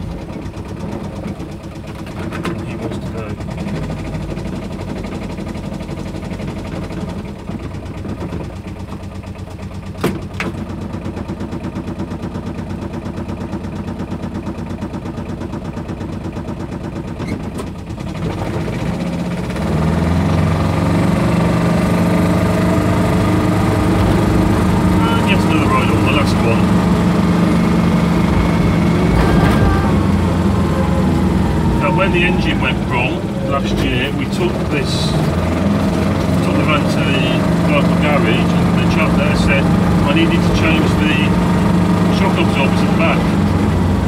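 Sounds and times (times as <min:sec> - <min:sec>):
diesel engine idling and revving: 0:00.0 - 0:44.0.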